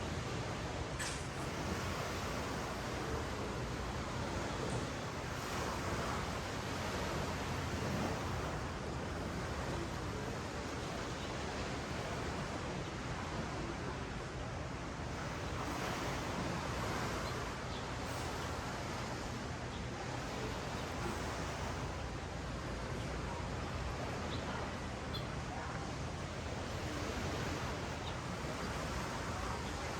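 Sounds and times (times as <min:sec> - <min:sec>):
ocean waves washing up a beach: 0:00.0 - 0:29.9.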